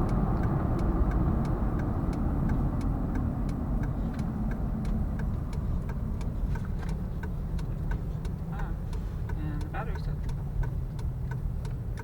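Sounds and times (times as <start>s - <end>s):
engine and road rumble: 0.0s - 12.0s
turn signal ticking: 0.0s - 12.0s.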